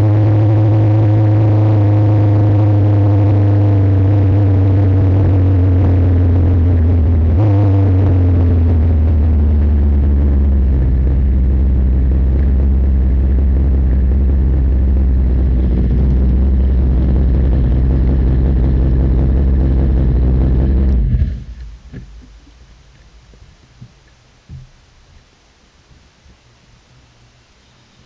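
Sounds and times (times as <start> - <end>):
race car engine at low revs: 0.0 - 24.4.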